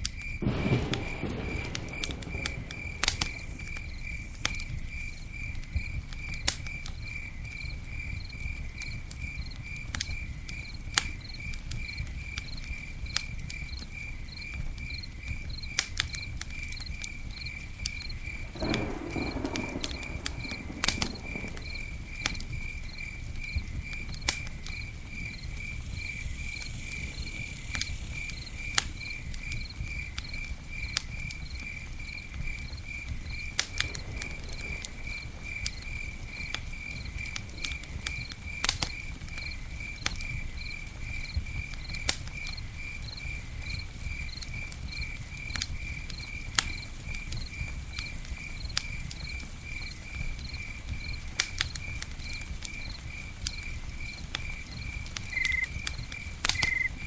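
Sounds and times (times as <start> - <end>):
campfire crackling: 0.0 - 57.0
cricket chirping: 0.0 - 57.0.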